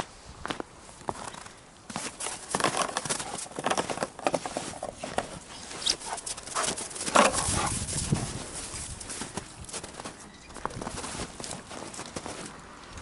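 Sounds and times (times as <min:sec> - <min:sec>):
paw crunches on snow: 0:00.0 - 0:12.6.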